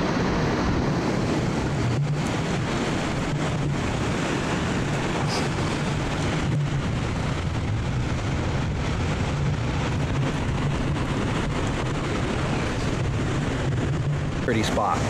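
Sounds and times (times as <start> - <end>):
ocean surf breaking on rocks: 0.0 - 15.0
wind noise on microphone: 0.0 - 15.0.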